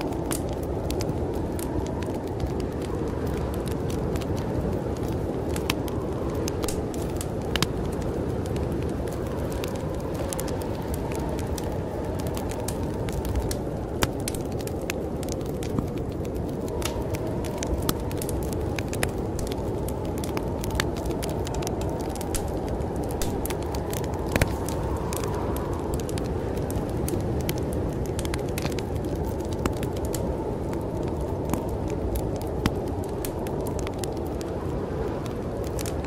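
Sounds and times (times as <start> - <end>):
snowstorm wind rushing: 0.0 - 36.0
wood fire crackling and popping: 0.0 - 36.0.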